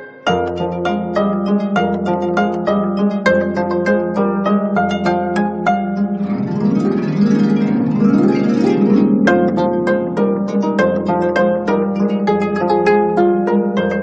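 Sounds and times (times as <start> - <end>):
plucked zither: 0.0 - 14.0.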